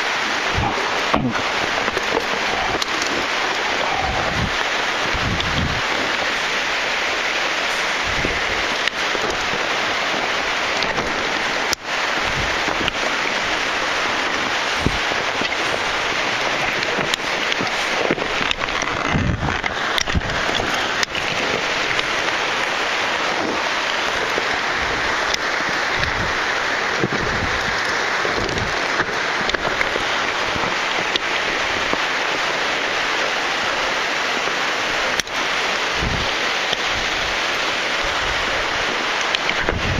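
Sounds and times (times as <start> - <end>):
falling water rushing: 0.0 - 39.9
rope and karabiners clicking: 0.5 - 33.0.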